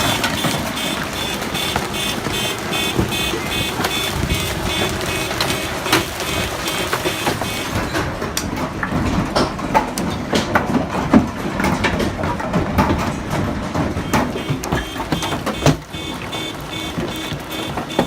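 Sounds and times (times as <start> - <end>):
hailstones striking hard surfaces: 0.0 - 18.0.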